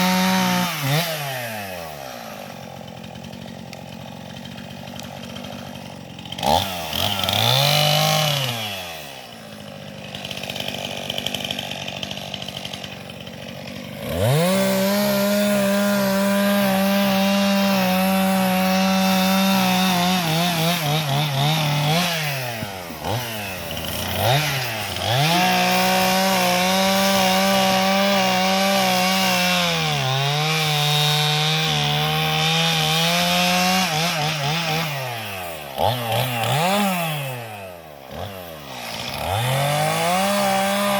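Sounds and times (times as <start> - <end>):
chainsaw revving and cutting wood: 0.0 - 40.9.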